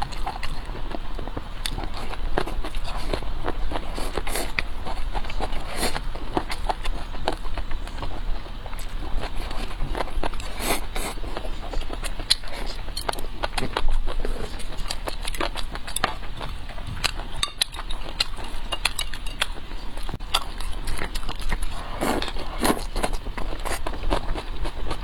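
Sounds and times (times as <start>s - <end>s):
chewing and crunching: 0.0s - 25.0s
steady low hum: 0.0s - 25.0s.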